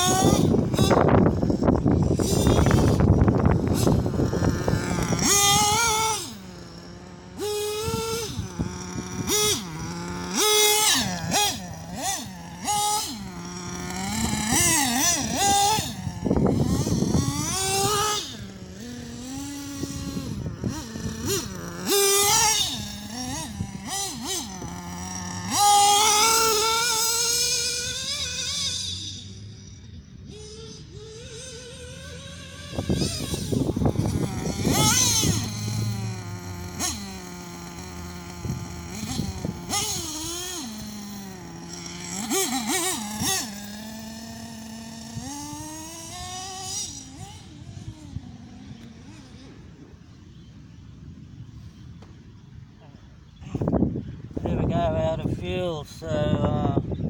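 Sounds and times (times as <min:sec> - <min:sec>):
nitro engine revving: 0:00.0 - 0:57.0.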